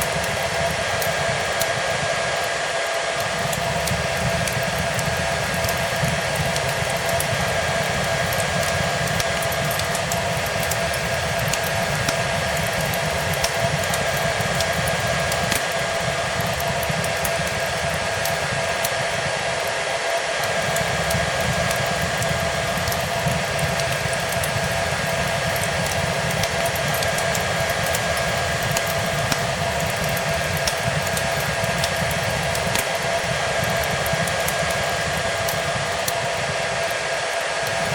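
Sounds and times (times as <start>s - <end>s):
hair dryer whining: 0.0s - 37.9s
wood fire crackling: 0.0s - 37.9s.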